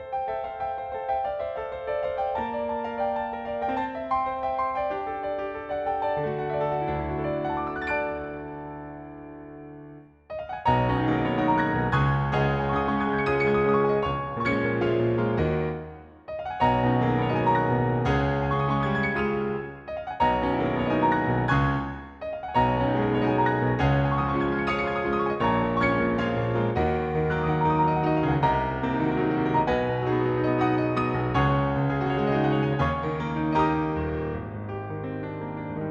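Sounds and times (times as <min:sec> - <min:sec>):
piano playing full chords: 0:00.0 - 0:35.9.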